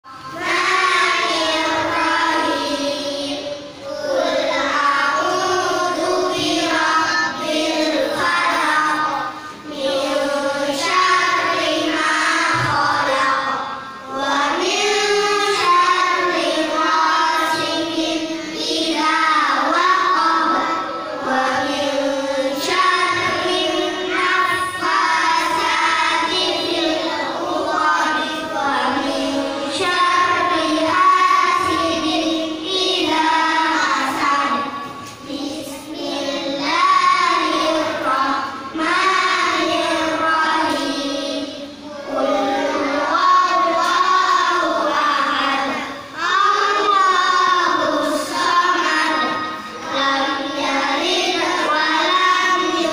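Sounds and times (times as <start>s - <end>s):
children chanting together: 0.0s - 52.9s.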